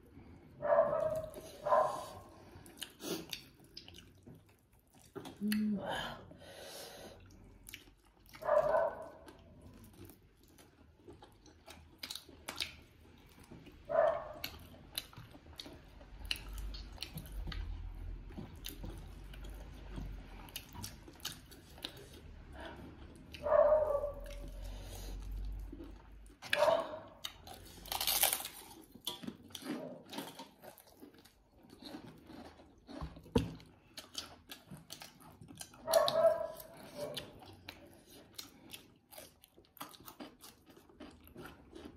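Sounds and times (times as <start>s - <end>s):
people chewing and lip-smacking: 0.2s - 5.8s, 7.1s - 41.9s.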